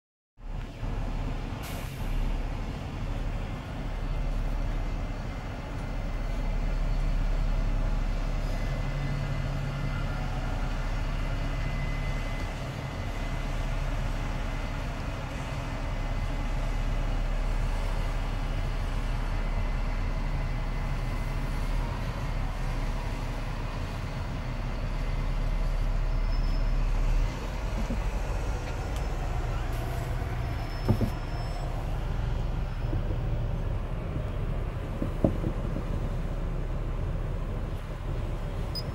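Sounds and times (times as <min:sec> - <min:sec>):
bus diesel engine running: 0:00.4 - 0:38.9.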